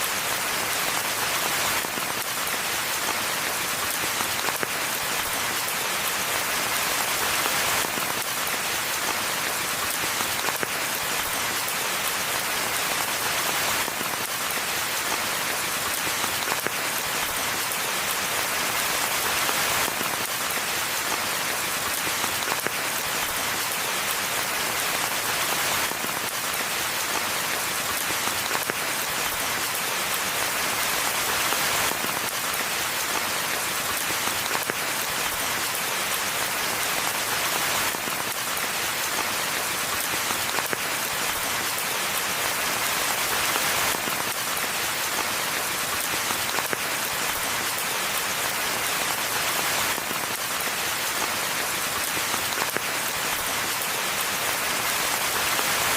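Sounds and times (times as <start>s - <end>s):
rain hissing in forest: 0.0s - 55.9s.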